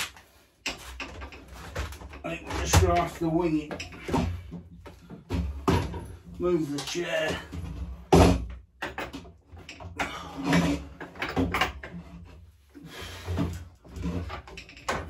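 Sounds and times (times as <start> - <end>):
clunks knocks and scrapes: 0.6 - 15.0.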